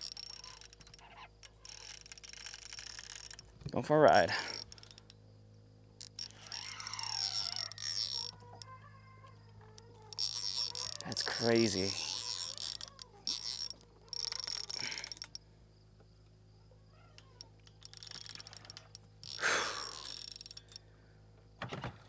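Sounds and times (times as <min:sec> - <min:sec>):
fishing reel drag: 0:00.0 - 0:05.2, 0:06.0 - 0:15.4, 0:16.9 - 0:20.9.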